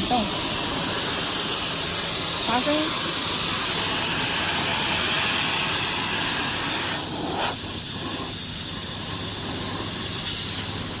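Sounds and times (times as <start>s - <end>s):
loud steady hissing: 0.0s - 11.0s.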